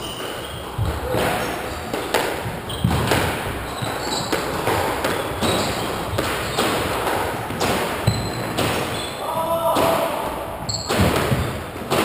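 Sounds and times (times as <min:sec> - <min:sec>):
squash ball knocking off racket and walls: 0:00.0 - 0:12.0.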